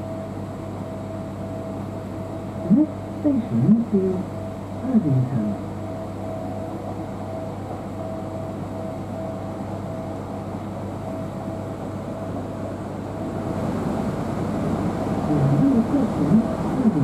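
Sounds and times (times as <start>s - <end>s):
constant low hum: 0.0s - 17.0s
steady high-pitched tone: 0.0s - 17.0s
train running noise: 2.6s - 17.0s.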